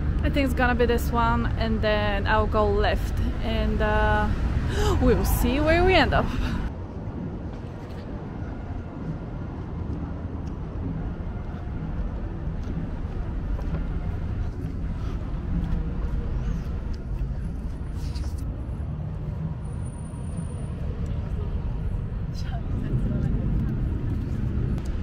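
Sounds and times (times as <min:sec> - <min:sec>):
low rumble of passing cars: 0:00.0 - 0:25.0.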